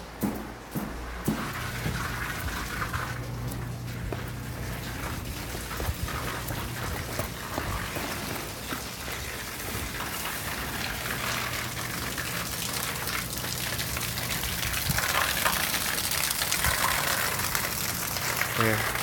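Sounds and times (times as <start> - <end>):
water splashing down: 1.3 - 19.0.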